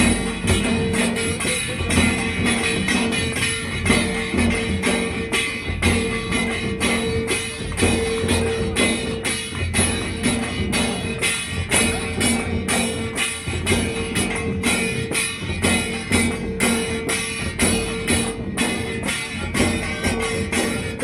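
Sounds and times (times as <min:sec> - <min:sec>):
drums beaten in driving rhythm: 0:00.0 - 0:21.0
metallic jingle: 0:00.0 - 0:21.0.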